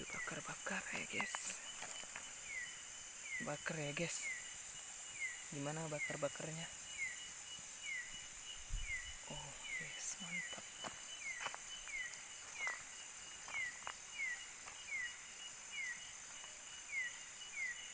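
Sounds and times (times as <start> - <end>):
insect high-pitched drone: 0.0 - 17.9.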